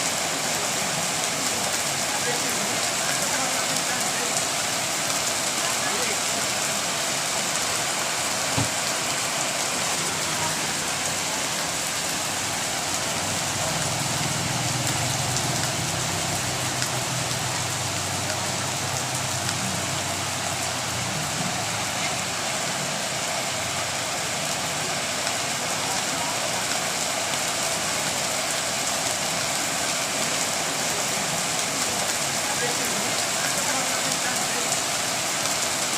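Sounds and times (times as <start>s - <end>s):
rain pattering on surfaces: 0.0s - 35.9s.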